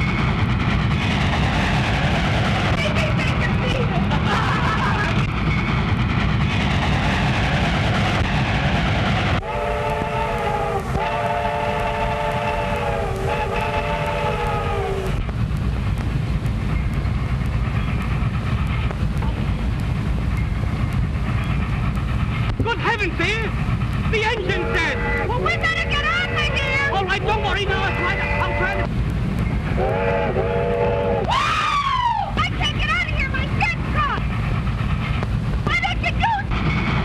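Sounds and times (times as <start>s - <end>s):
train rattling rumble: 0.0s - 37.0s.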